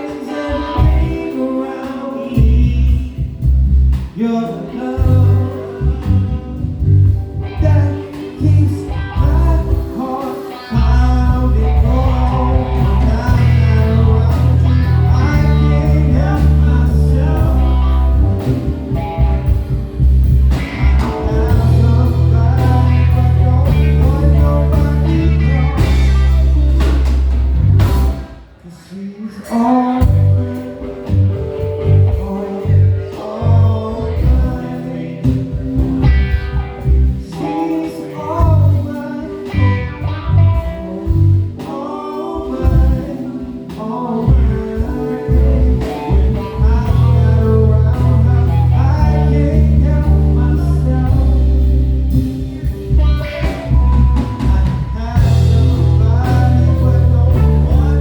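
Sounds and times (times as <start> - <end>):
soul band playing: 0.0 - 58.0.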